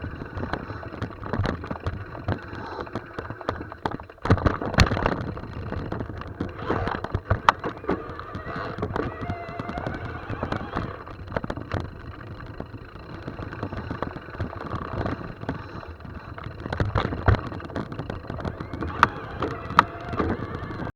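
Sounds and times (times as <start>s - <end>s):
bike knocks and rattles: 0.0s - 20.9s
bike tyre rumble: 0.0s - 20.9s.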